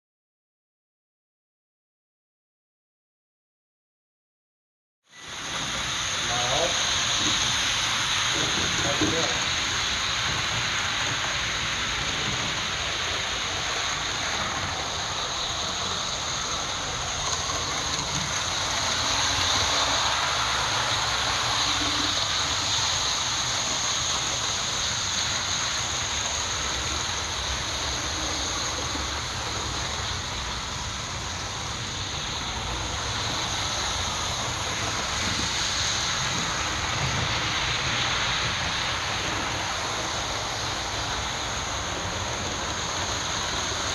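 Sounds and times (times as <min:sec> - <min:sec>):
model trains whirring on track: 0:05.1 - 0:43.9.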